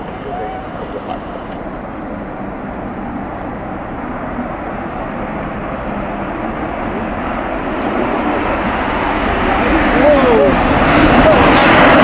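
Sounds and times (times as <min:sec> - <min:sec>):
jet engine roar on takeoff: 0:00.0 - 0:12.0.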